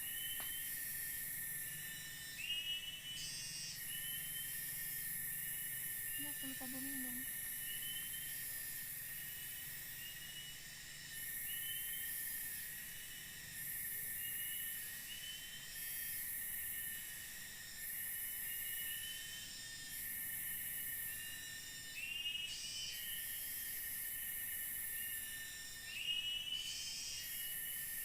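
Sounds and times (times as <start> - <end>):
high hissing insect buzz: 0.0 - 28.0
insects droning: 0.0 - 28.0.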